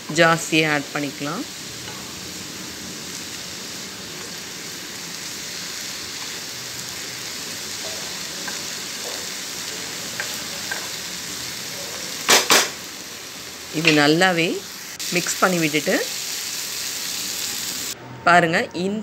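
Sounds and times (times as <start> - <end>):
vegetables sizzling in a pan: 0.0 - 18.0.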